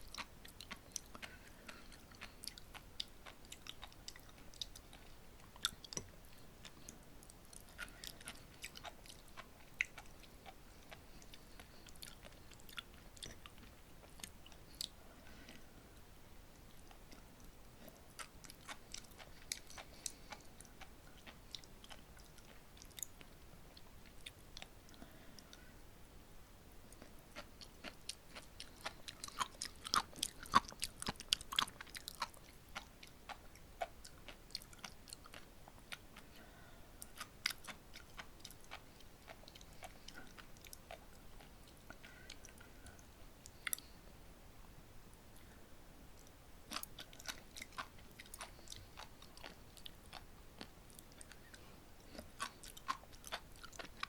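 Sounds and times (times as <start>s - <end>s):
chewing popping seaweed beads: 0.0s - 15.6s, 16.5s - 25.0s, 26.9s - 36.3s, 37.0s - 44.0s, 46.2s - 54.0s.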